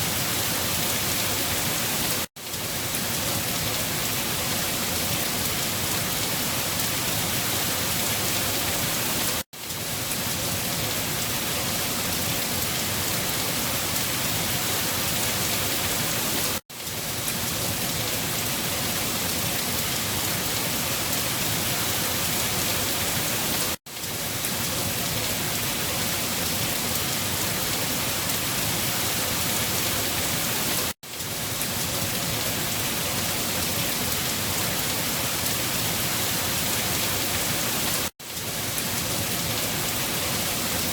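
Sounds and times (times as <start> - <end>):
steady dense rain: 0.0 - 40.9.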